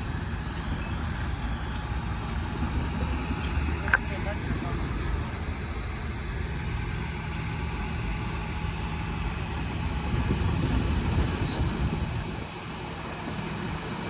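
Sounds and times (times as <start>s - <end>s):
heavy engine rumbling: 0.0s - 14.0s.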